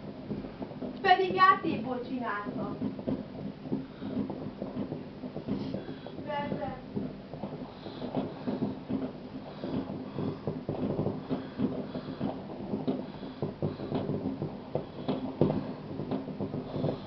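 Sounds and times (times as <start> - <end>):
distant fireworks popping: 0.0 - 17.0.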